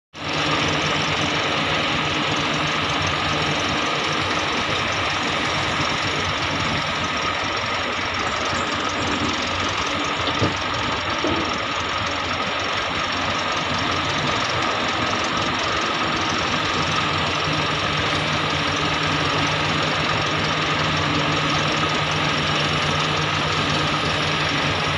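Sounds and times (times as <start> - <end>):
heavy diesel engine running: 0.2 - 24.9.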